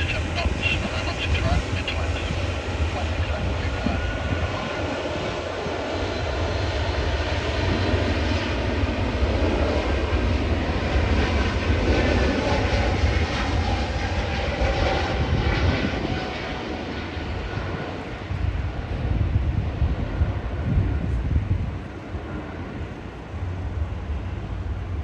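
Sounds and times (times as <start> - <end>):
jet airliner engines roaring: 0.0 - 25.0.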